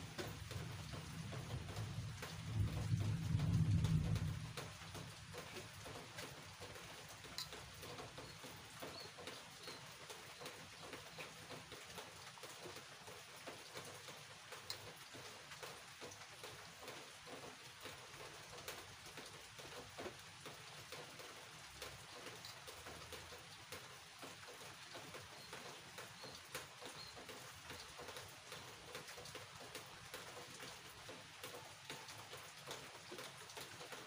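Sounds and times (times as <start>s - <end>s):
faint rain patter: 0.0s - 34.0s.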